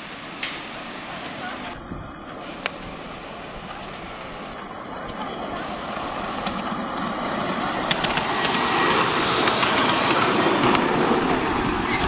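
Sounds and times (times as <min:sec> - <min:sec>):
steam hiss: 0:00.0 - 0:12.0
wheels clicking over track: 0:00.3 - 0:12.0.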